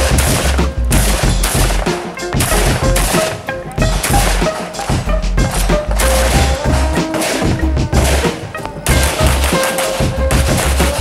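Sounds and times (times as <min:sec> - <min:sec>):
background music with steady beat: 0:00.0 - 0:11.0
rapid gunshots: 0:00.0 - 0:11.0.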